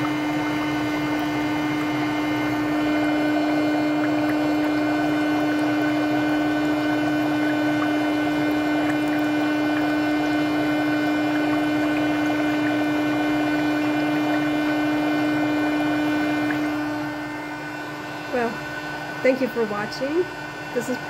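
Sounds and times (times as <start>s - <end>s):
water bubbling and fizzing: 0.0s - 18.5s
foot spa motor humming: 0.0s - 21.0s.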